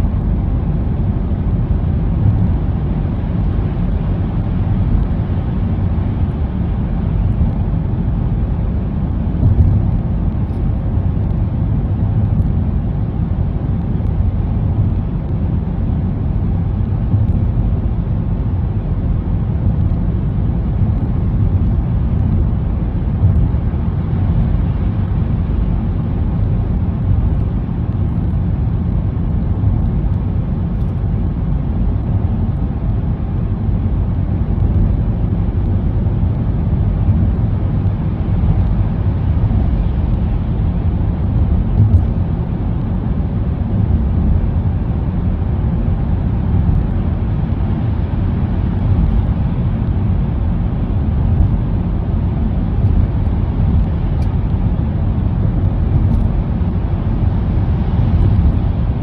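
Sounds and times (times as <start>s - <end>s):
car driving through tunnel: 0.0s - 59.0s.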